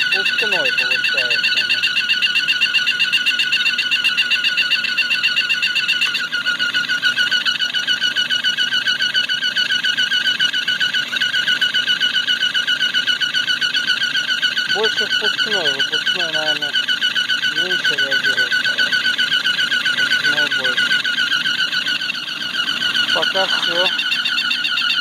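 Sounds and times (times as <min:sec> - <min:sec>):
car engine running: 0:00.0 - 0:25.0
high-pitched warbling whistle: 0:00.0 - 0:25.0.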